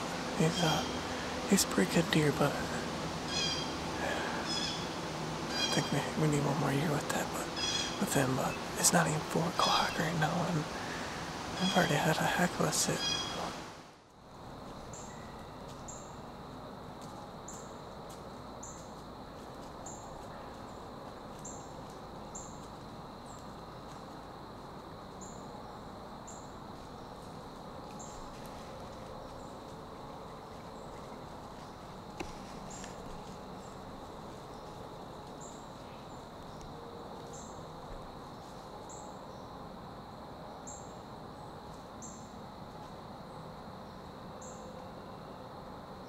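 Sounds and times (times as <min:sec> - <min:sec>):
very high insect chirps: 0:00.0 - 0:13.6, 0:14.2 - 0:46.0
insect drone: 0:00.0 - 0:46.0.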